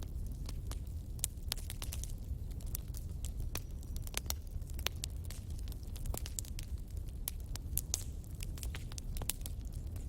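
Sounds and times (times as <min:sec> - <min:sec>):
firewood crackling: 0:00.0 - 0:10.0
sharp pops of burning wood: 0:00.0 - 0:10.0.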